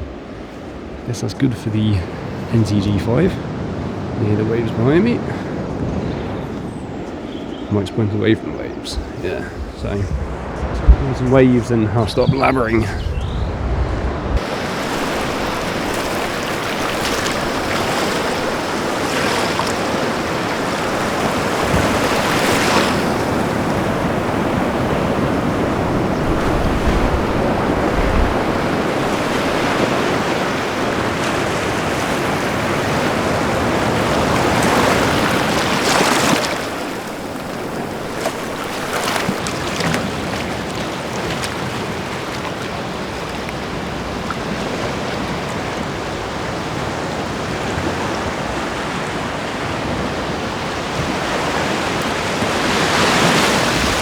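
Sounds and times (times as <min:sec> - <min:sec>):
sea waves breaking on shore: 0:00.0 - 0:54.0
wind buffeting microphone: 0:02.0 - 0:54.0.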